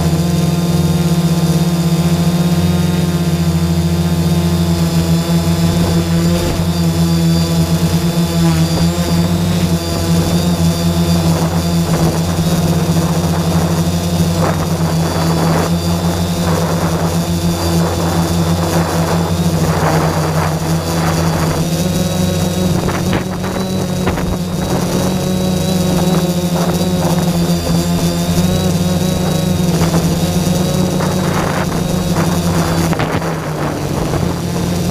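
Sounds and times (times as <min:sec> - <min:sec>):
drone propellers humming: 0:00.0 - 0:34.9.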